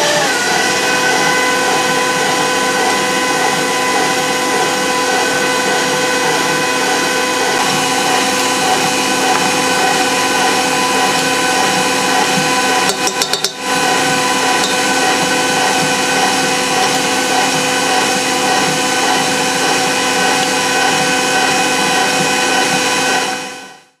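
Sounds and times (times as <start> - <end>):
stand mixer whining: 0.0 - 24.0.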